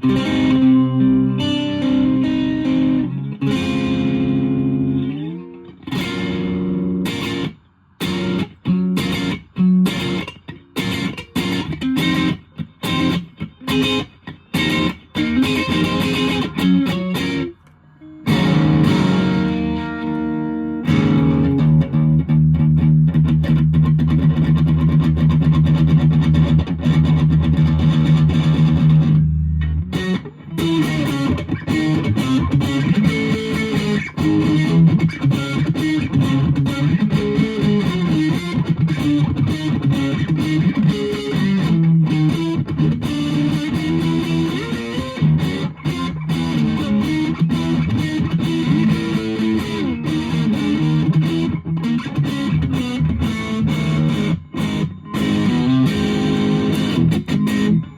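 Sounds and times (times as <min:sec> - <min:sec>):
distorted electric guitar: 0:00.0 - 0:57.9.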